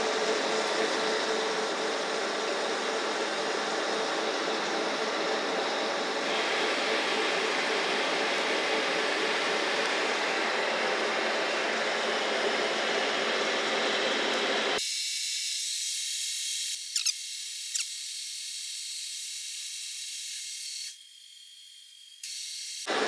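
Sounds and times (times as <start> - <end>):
metal lathe cutting whir: 0.0 - 23.0.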